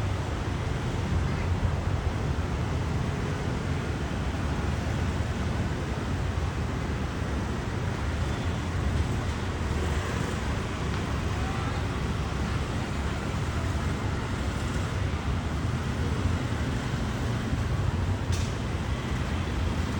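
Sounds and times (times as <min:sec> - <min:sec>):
city road traffic: 0:00.0 - 0:19.9.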